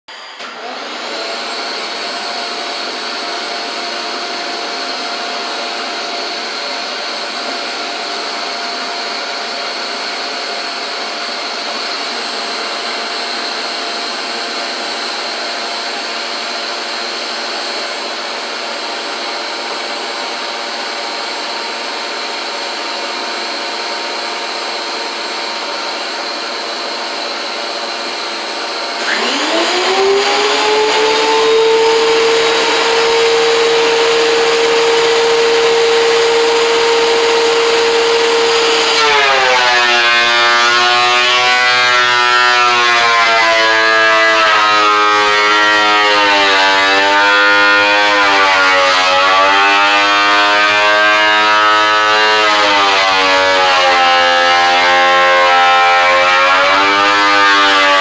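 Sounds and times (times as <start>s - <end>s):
shop vacuum motor whine: 0.0s - 58.0s.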